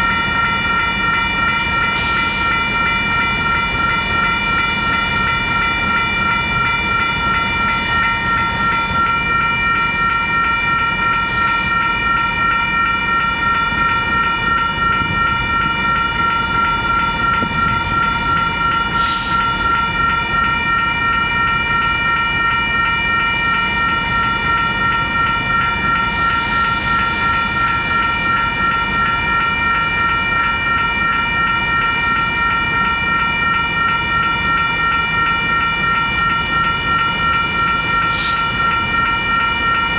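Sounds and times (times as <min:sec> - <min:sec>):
crossing bell ringing rapidly: 0:00.0 - 0:39.9.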